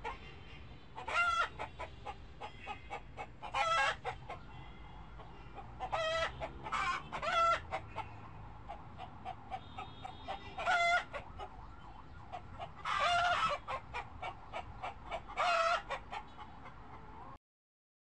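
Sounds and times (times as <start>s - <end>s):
soft clucks: 0.0s - 17.4s
fowl squawking: 1.0s - 11.6s, 12.3s - 16.7s.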